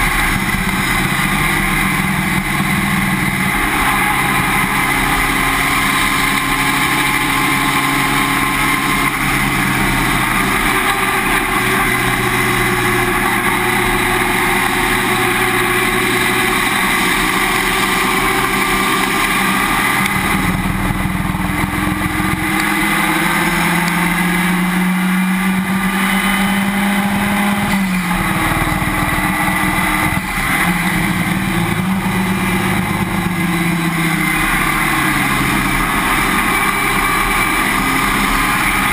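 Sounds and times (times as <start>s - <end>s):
race car engine: 0.0s - 38.9s.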